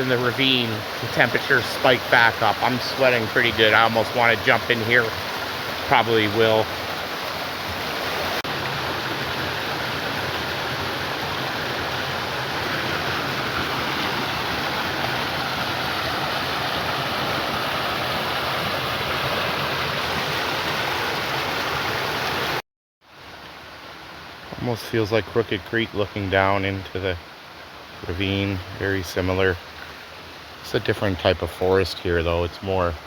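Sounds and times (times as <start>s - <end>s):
creek water rushing over cascades: 0.0s - 33.0s.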